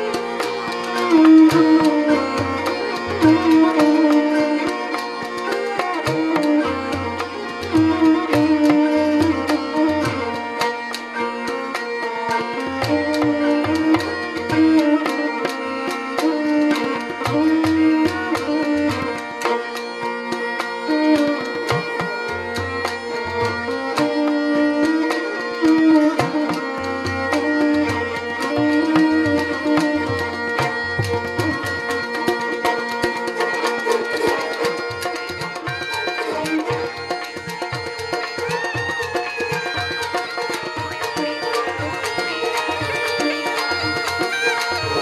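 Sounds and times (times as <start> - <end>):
bowed string melody: 0.0 - 45.0
hand drum rhythm: 0.0 - 45.0.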